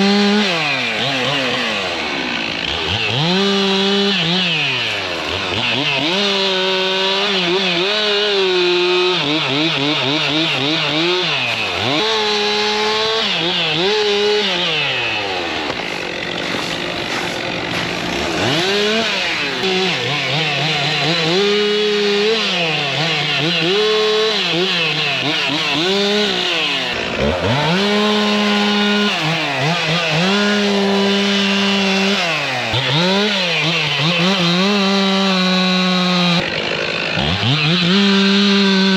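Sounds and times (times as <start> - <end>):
chainsaw revving while cutting: 0.0 - 38.9.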